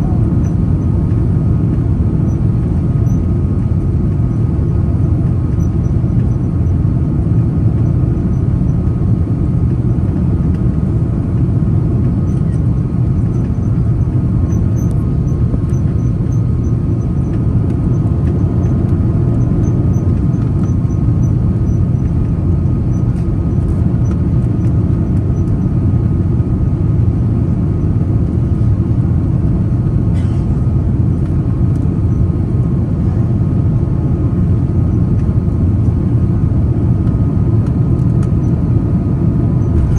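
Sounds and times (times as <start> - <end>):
airliner cabin engine rumble: 0.0 - 39.9
faint steady whining tones: 0.0 - 39.9.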